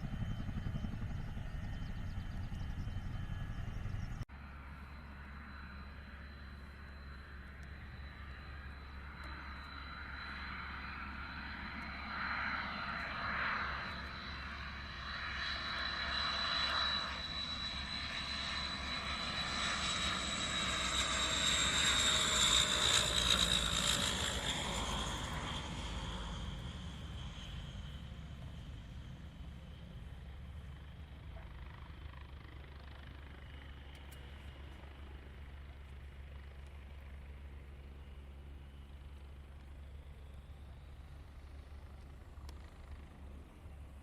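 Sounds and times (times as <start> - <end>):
high-pitched engine whine: 0.0 - 44.0
turboprop plane passing: 0.0 - 44.0.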